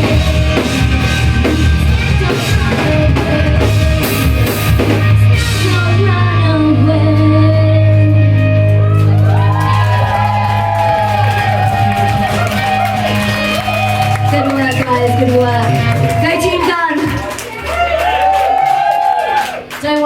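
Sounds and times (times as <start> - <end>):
live rock band playing: 0.0 - 18.8.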